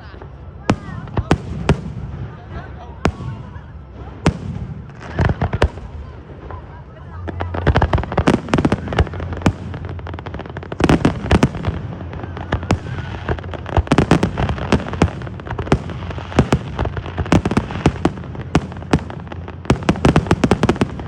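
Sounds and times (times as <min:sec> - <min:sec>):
fireworks popping and banging: 0:00.2 - 0:21.0.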